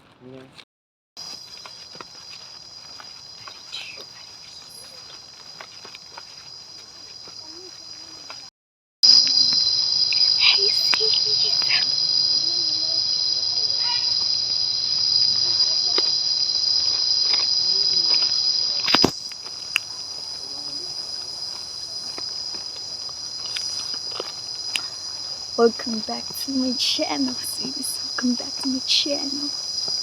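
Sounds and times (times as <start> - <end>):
high-pitched insect chorus: 1.2 - 30.0.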